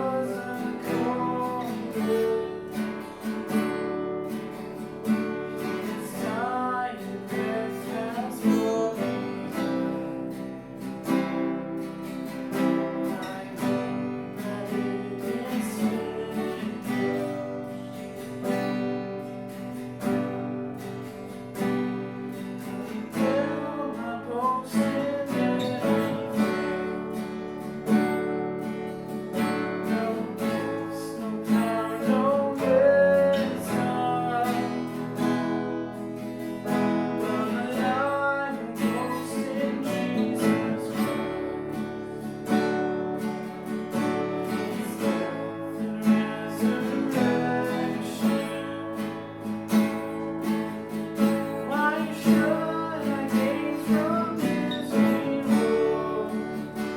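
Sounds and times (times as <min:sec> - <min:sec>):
acoustic guitar strumming chords: 0:00.0 - 0:56.9.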